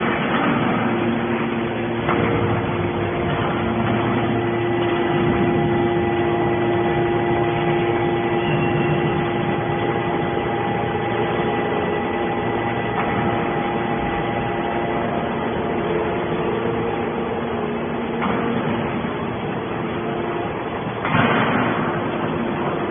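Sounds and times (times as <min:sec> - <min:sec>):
hydraulic baler machine running: 0:00.0 - 0:22.9.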